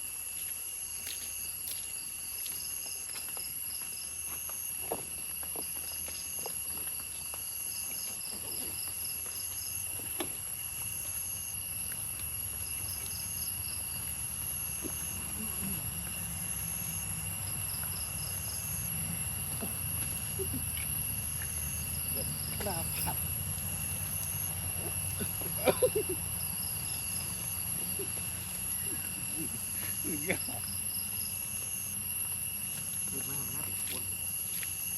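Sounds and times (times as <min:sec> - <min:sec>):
insects whining and chirping: 0:00.0 - 0:34.9.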